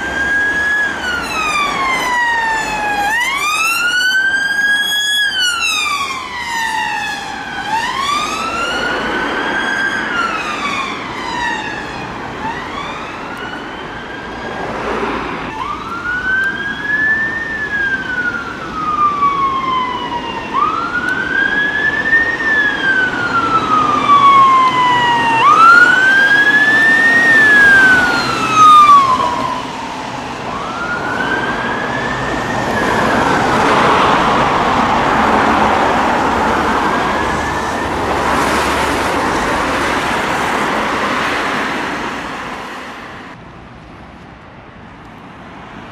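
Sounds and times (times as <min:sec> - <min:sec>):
emergency siren wailing: 0:00.0 - 0:43.4
vehicle and road noise: 0:00.0 - 0:45.9.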